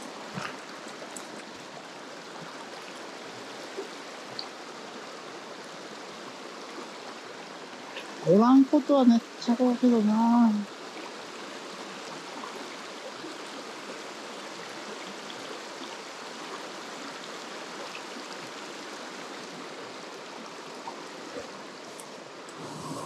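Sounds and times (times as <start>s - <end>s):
mountain stream water rushing: 0.0s - 23.0s.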